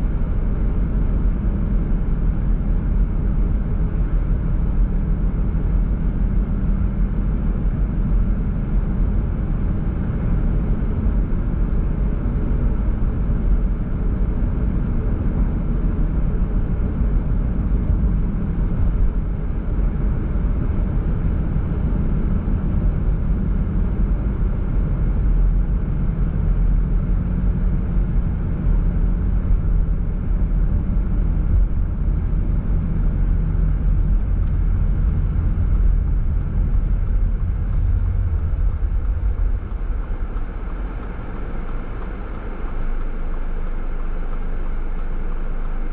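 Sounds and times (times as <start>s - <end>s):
car engine and road rumble: 0.0s - 45.9s.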